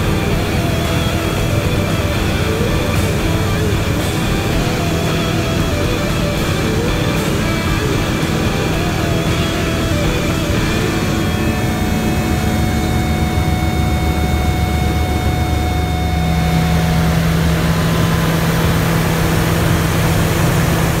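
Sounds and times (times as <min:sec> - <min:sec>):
propeller plane engine: 0:00.0 - 0:21.0.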